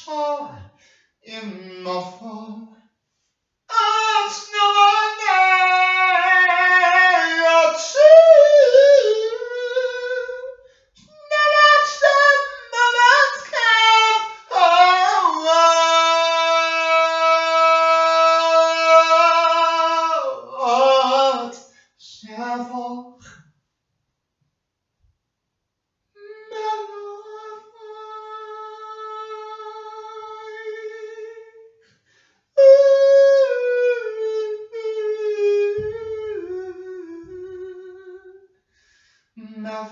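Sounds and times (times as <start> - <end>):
person singing unaccompanied: 0.0 - 0.7, 1.3 - 2.8, 3.7 - 23.4, 26.2 - 31.7, 32.6 - 38.4, 39.4 - 39.9.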